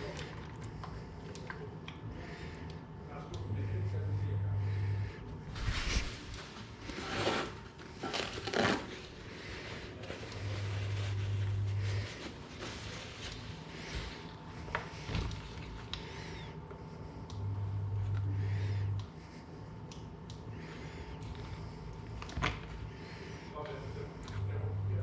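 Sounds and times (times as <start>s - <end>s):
low electric hum: 0.0s - 25.0s.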